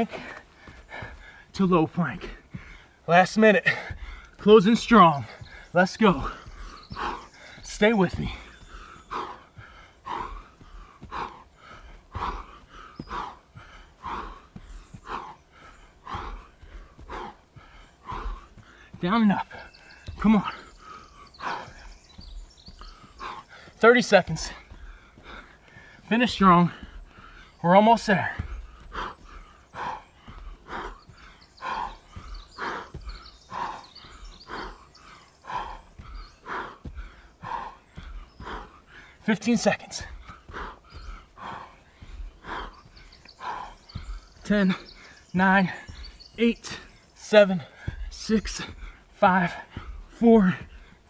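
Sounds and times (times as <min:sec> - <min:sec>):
man breathing hard: 0:00.0 - 0:51.0.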